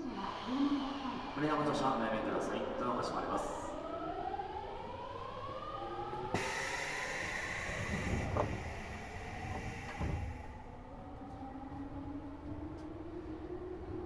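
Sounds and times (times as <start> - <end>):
subway train inverter whine: 0.0 - 14.0.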